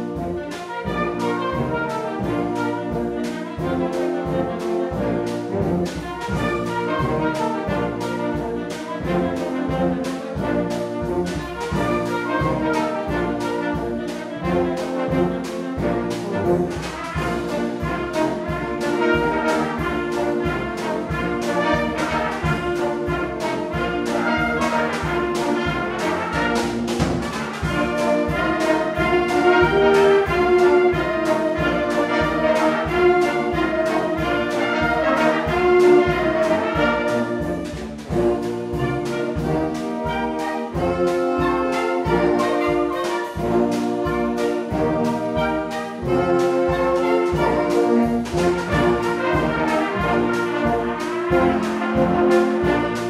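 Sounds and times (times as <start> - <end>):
drum kit beat: 0.0 - 53.0
wind band playing: 0.0 - 53.0.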